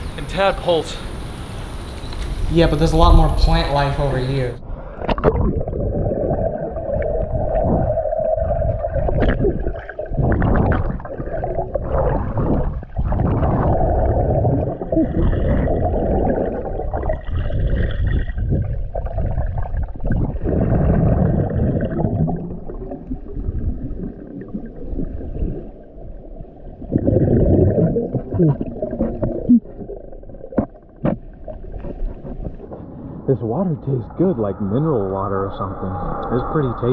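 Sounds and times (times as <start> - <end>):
underwater rushing and gurgling: 0.0 - 36.9.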